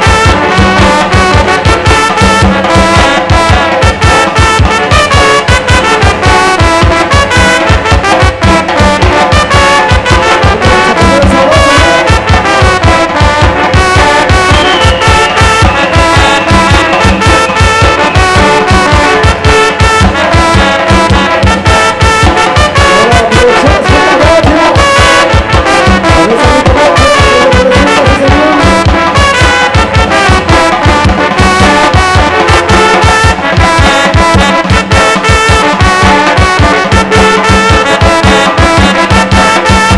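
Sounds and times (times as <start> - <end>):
bass drum beat: 0.0 - 39.9
trumpets and trombones: 0.0 - 39.9.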